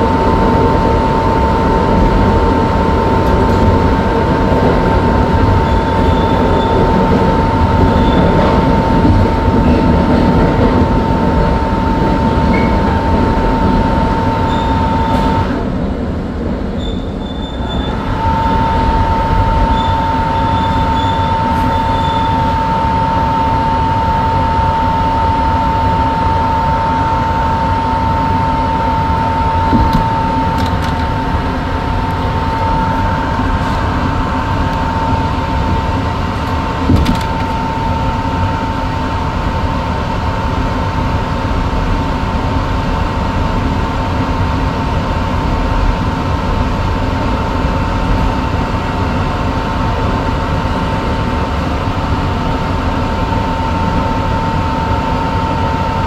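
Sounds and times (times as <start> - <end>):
high-pitched whine: 0.0 - 56.0
subway train rumble in tunnel: 0.0 - 56.0.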